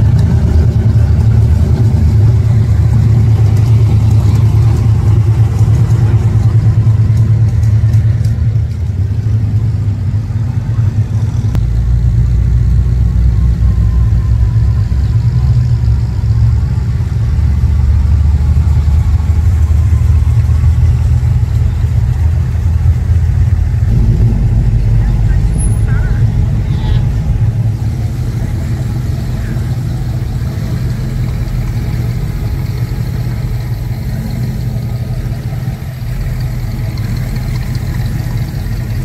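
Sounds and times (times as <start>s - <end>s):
car engines rumbling past: 0.0s - 39.0s.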